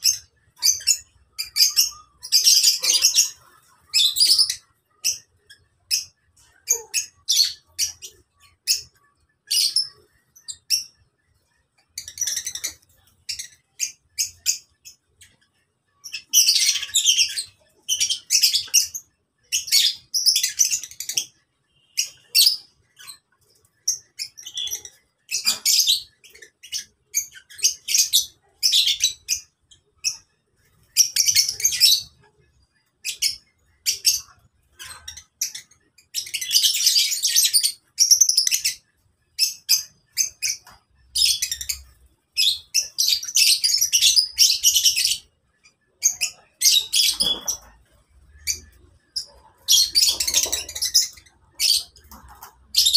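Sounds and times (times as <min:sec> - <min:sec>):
lovebirds chattering: 0:00.0 - 0:52.9.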